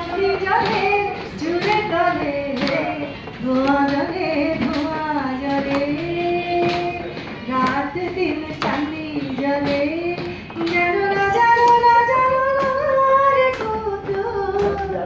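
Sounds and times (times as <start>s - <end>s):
woman singing into microphone: 0.0s - 15.0s.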